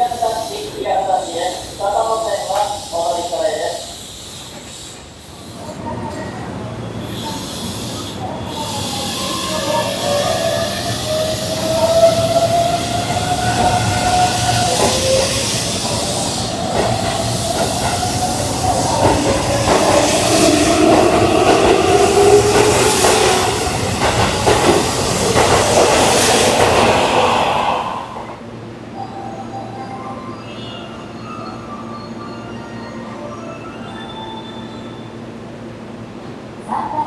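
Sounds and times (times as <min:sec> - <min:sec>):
electric train whine: 0:00.0 - 0:36.9
train running noise: 0:00.0 - 0:37.0.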